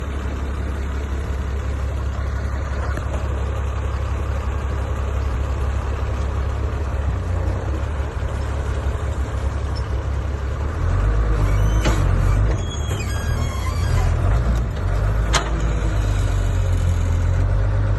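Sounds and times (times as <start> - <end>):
construction machine engine: 0.0 - 17.9.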